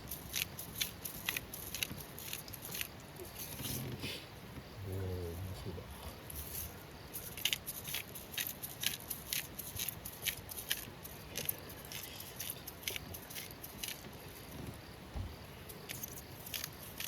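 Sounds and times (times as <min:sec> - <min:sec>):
sharp irregular pops: 0:00.0 - 0:04.0, 0:06.6 - 0:17.0.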